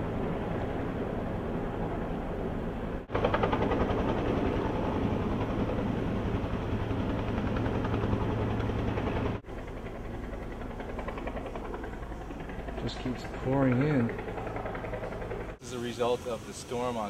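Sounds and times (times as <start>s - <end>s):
engine rumble with fast flutter: 0.0s - 17.0s.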